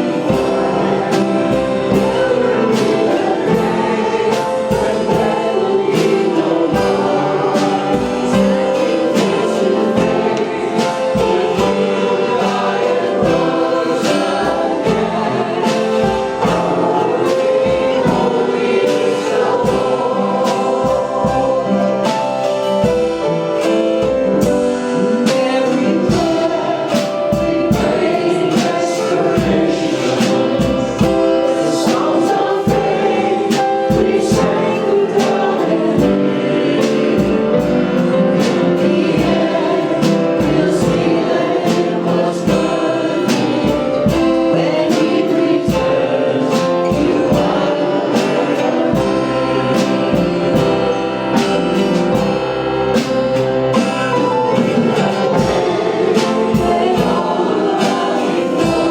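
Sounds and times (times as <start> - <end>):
congregation singing gospel song: 0.0 - 58.9
drums steady beat: 0.0 - 58.9
keyboard: 0.0 - 58.9.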